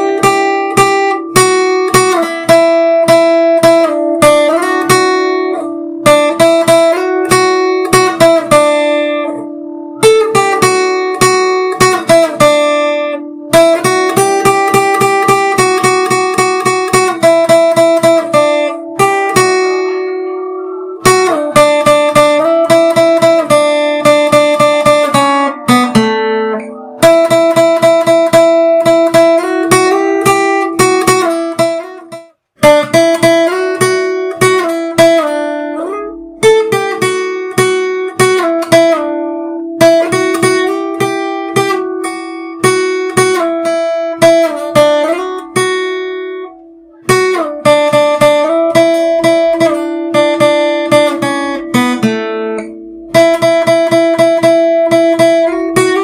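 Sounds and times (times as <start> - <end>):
strummed acoustic guitar chords: 0.0 - 56.0.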